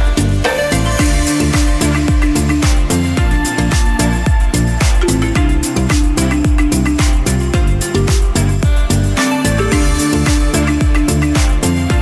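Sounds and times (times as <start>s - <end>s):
dance music with kick drums: 0.0s - 12.0s.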